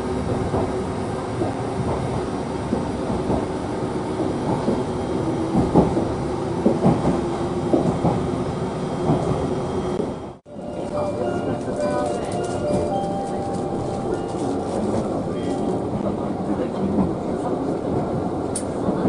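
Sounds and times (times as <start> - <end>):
train running on track: 0.0 - 19.0.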